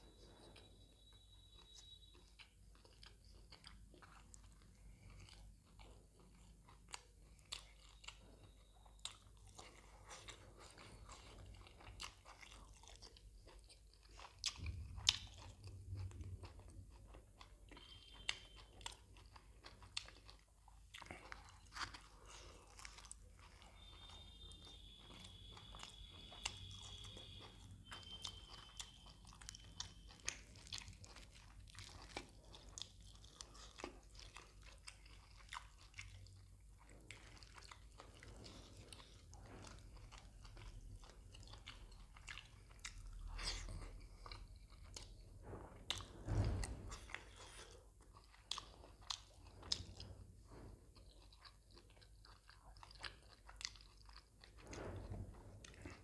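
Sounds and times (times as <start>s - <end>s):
wet chewing smacks and clicks: 1.5s - 54.8s.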